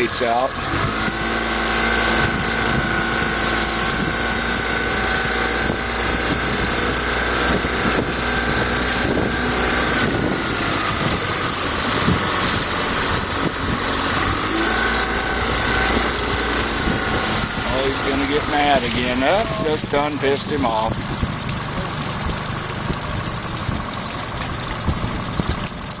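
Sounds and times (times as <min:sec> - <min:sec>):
boat motor running: 0:00.0 - 0:26.0.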